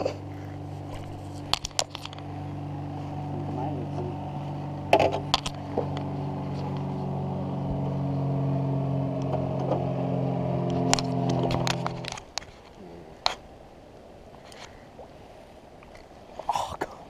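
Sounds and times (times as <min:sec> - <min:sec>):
boat motor running: 0:00.0 - 0:15.3.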